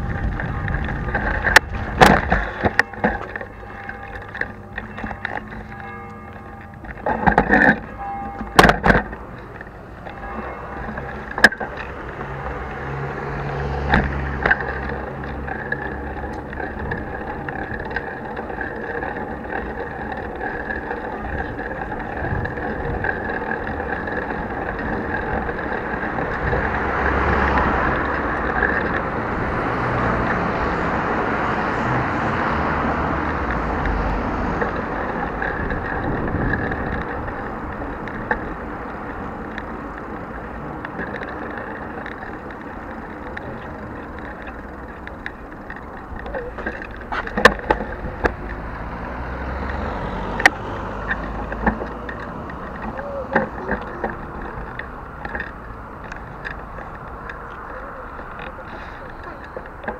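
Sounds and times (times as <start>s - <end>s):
bicycle wheels rumbling on pavement: 0.0s - 59.9s.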